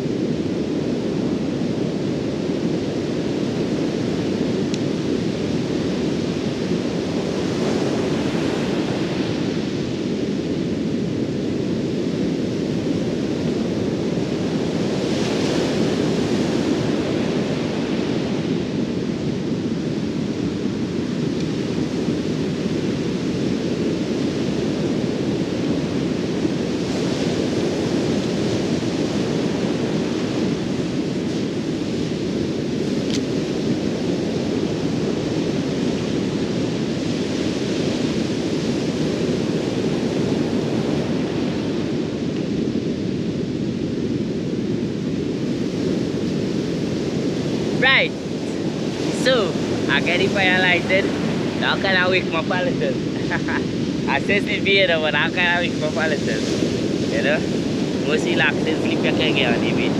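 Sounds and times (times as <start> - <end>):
ocean surf: 0.0 - 59.9
wind on microphone: 0.0 - 59.9.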